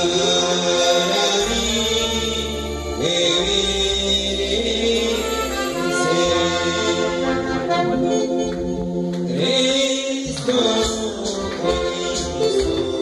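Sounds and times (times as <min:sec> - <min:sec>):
voices singing along: 0:00.0 - 0:08.4, 0:09.2 - 0:13.0
electronic keyboard playing chords: 0:00.0 - 0:13.0.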